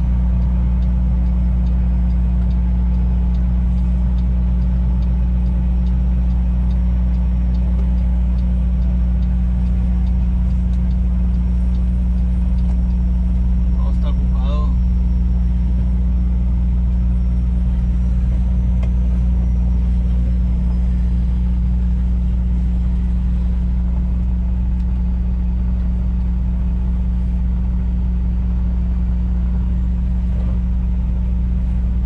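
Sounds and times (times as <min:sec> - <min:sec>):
diesel truck engine drone: 0:00.0 - 0:32.0.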